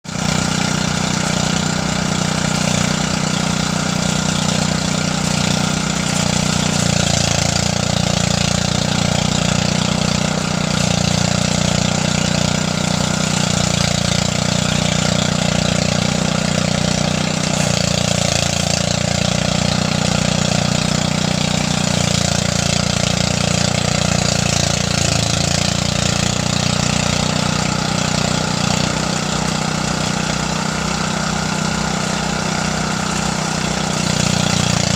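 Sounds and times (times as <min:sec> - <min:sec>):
threshing machine engine humming: 0:00.0 - 0:34.9.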